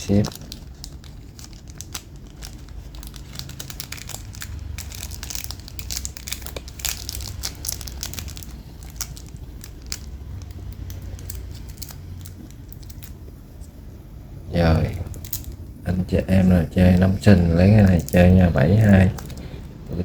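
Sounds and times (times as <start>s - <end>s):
plastic wrapping crinkling: 0.0s - 13.8s, 14.6s - 20.0s
low steady hum: 0.0s - 20.0s.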